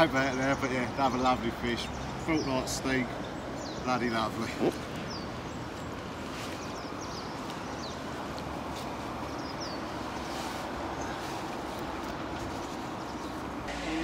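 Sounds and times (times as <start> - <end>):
rushing hum background: 0.0 - 14.0.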